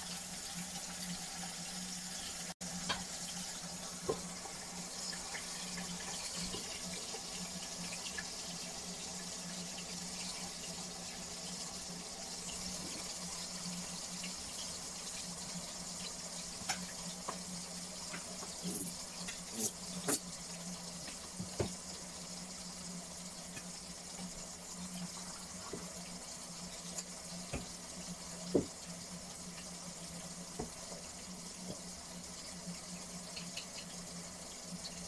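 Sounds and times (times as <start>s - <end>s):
chicken sizzling in frying pan: 0.0s - 35.0s.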